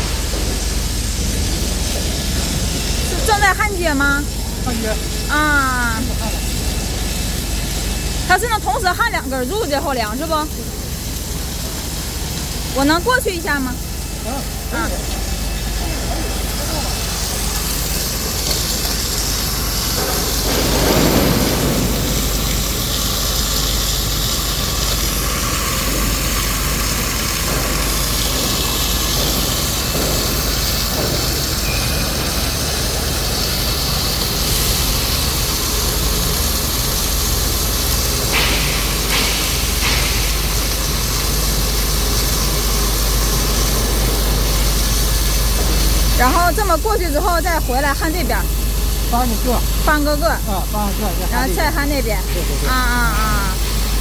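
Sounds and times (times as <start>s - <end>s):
arc welding machine humming: 0.0s - 54.0s.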